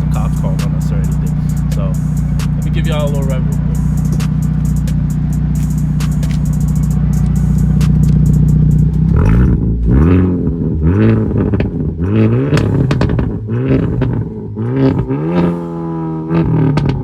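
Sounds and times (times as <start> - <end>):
car engine idling: 0.0 - 17.0
engine revving: 0.0 - 17.0.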